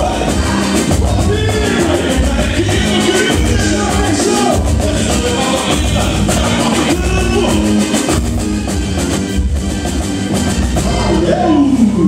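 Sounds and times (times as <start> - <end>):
big drums beating: 0.0 - 11.6
live band music: 0.0 - 12.0.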